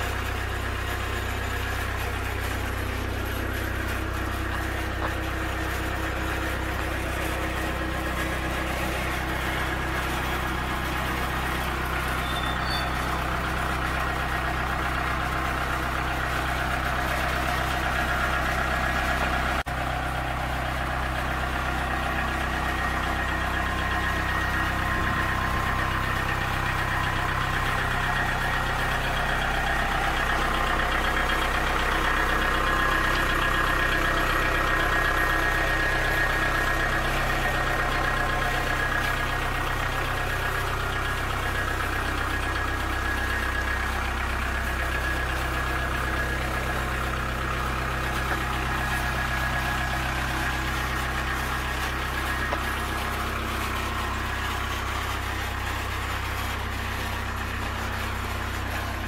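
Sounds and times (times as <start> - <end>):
forklift engine idling: 0.0 - 59.0.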